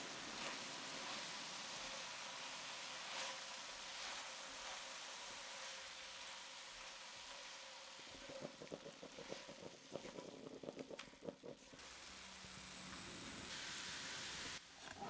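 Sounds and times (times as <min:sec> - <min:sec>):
food sizzling in pan: 0:00.0 - 0:14.6.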